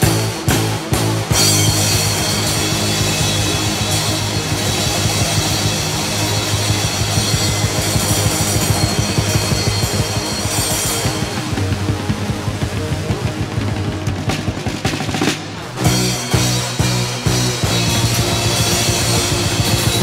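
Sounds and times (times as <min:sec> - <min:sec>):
metal band playing fast riff: 0:00.0 - 0:20.0.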